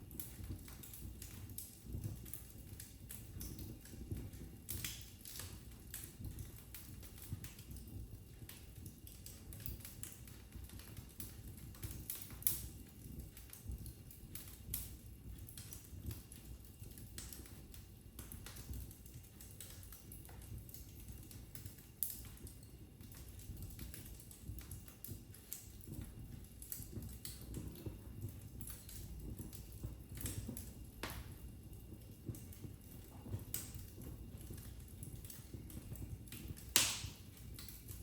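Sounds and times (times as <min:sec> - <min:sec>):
low rumble of flames: 0:00.0 - 0:38.0
wood fire crackling: 0:00.0 - 0:38.0.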